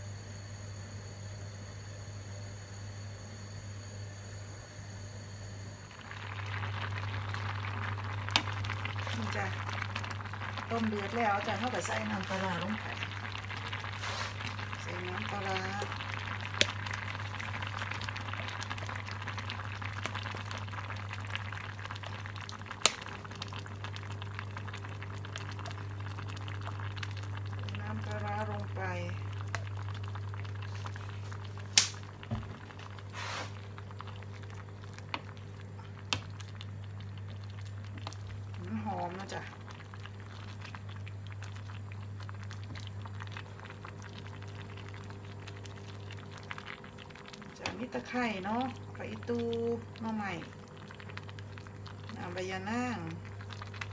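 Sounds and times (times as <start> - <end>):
constant low hum: 0.0 - 53.9
soup boiling and bubbling: 0.0 - 53.9.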